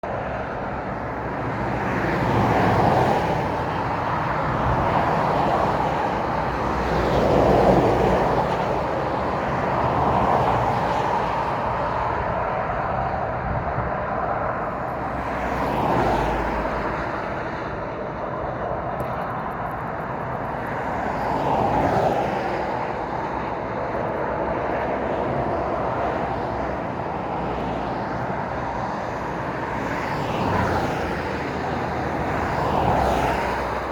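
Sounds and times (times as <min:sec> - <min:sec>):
road traffic rush: 0:00.0 - 0:33.9
vehicles passing by: 0:00.0 - 0:33.9.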